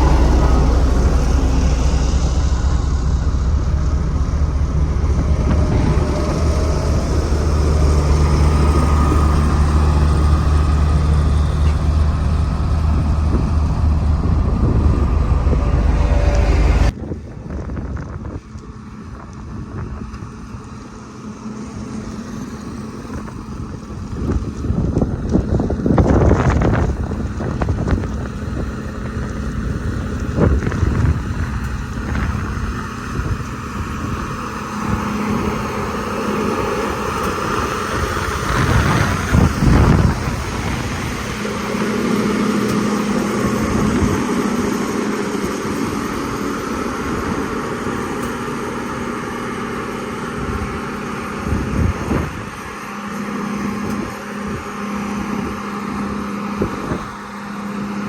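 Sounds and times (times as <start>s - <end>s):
road roller diesel engine running: 0.0s - 58.0s
wind buffeting microphone: 0.0s - 58.0s.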